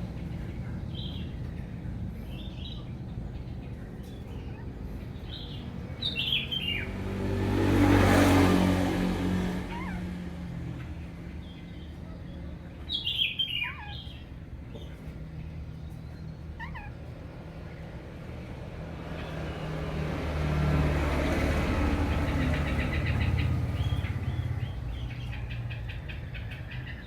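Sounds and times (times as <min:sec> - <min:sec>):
bird chirping: 0:00.0 - 0:07.3, 0:09.6 - 0:18.4, 0:21.2 - 0:27.0
passing motor vehicle: 0:00.0 - 0:27.0.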